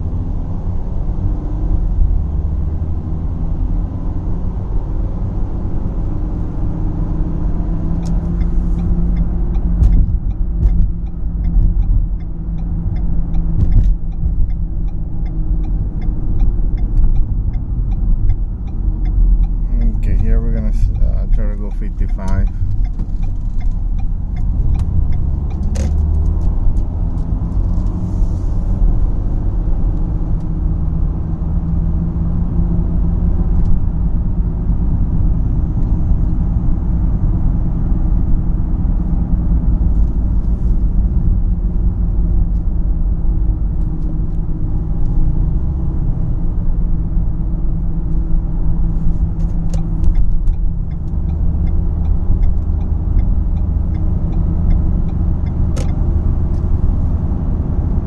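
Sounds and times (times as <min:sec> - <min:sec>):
low hum in car cabin: 0:00.0 - 0:58.0
road and tyre rumble: 0:00.0 - 0:58.0.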